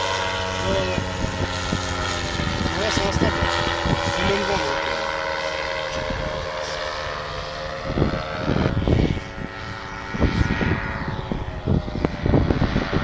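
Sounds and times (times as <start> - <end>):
paramotor engine droning: 0.0 - 13.0
wind rumbling on microphone: 0.0 - 13.0.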